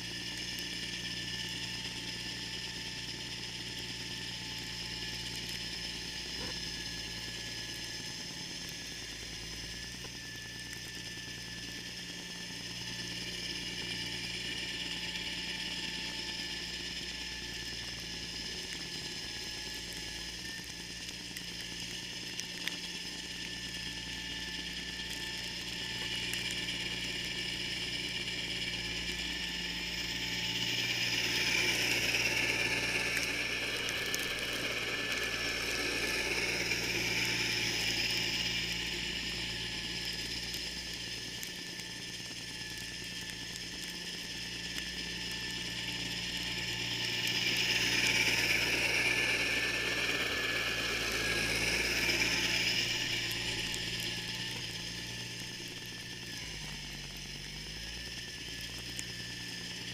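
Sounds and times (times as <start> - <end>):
garden tractor clatter and whir: 0.0 - 59.9.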